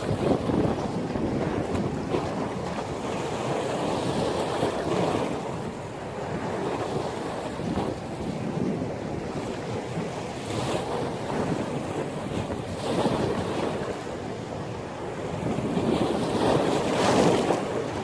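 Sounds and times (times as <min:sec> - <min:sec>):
sea waves breaking: 0:00.0 - 0:18.0
wind rumbling on microphone: 0:00.0 - 0:18.0.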